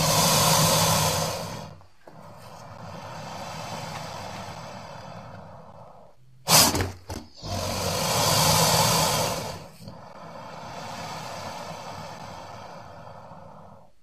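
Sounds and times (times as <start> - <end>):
crocodilian hissing: 0.0 - 14.0.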